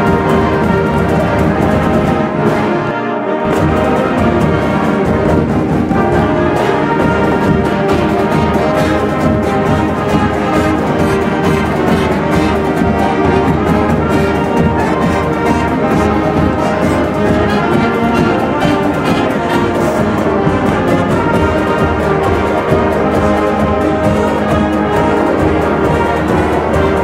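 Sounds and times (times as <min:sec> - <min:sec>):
orchestral music with brass: 0:00.0 - 0:27.0.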